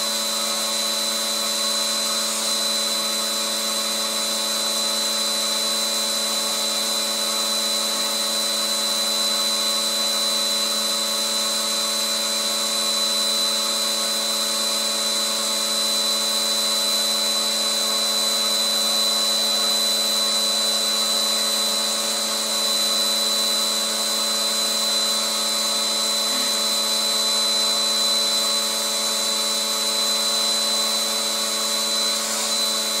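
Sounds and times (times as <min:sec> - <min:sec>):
vacuum cleaner whining: 0:00.0 - 0:33.0.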